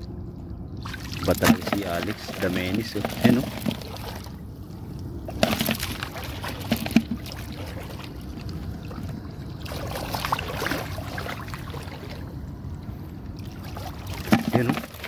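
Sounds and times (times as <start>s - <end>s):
water sloshing from wading: 0.0s - 15.0s.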